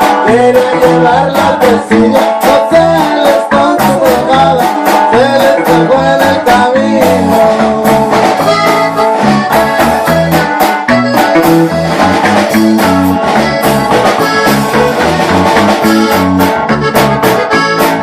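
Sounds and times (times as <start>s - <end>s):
lead melody: 0.0s - 18.0s
steady drum beat: 0.0s - 18.0s
stepping bass line: 0.0s - 18.0s.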